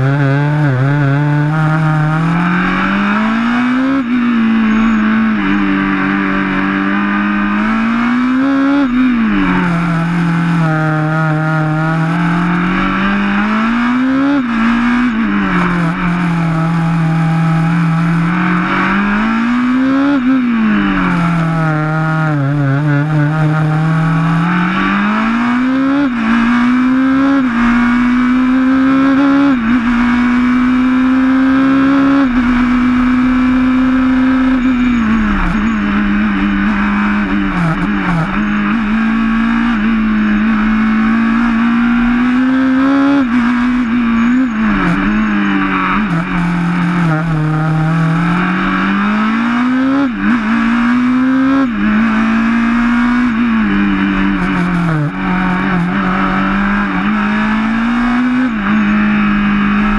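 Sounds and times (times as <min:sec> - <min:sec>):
racing car engine: 0:00.0 - 0:59.9.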